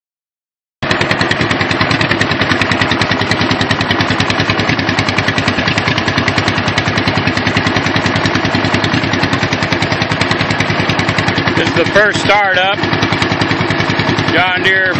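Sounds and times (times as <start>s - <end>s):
tractor engine exhaust popping: 0.8s - 14.9s.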